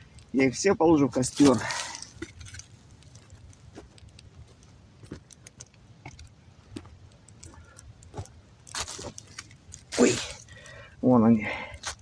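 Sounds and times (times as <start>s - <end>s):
campfire crackling and popping: 0.0s - 12.0s
low fire rumble: 0.0s - 12.0s.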